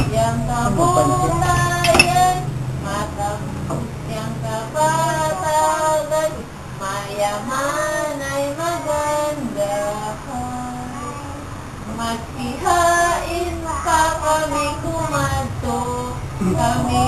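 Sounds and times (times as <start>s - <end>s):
child and woman singing: 0.0s - 17.0s.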